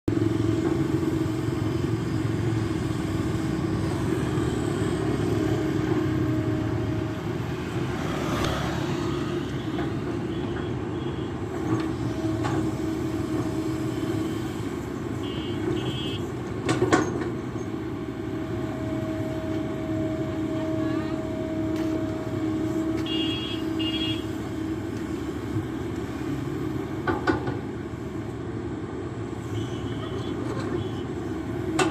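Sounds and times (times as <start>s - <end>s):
excavator engine running: 0.1s - 31.9s.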